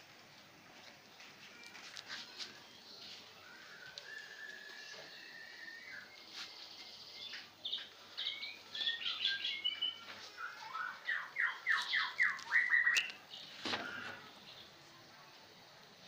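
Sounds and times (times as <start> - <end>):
songbird singing: 0.2 - 15.2.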